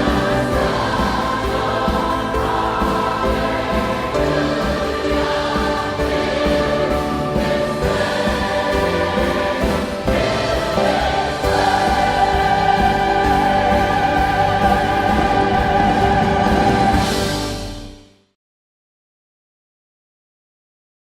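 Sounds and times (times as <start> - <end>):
choir singing held chord: 0.0 - 18.0
orchestra playing: 0.0 - 18.1.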